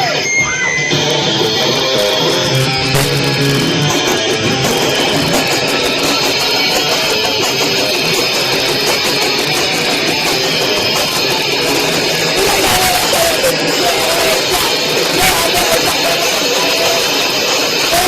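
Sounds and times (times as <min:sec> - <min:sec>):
live band distorted guitar music: 0:00.0 - 0:18.0.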